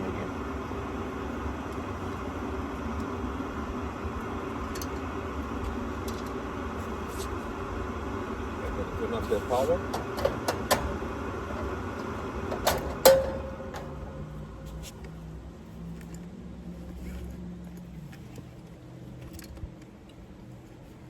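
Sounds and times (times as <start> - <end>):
low hum: 0.0 - 20.8.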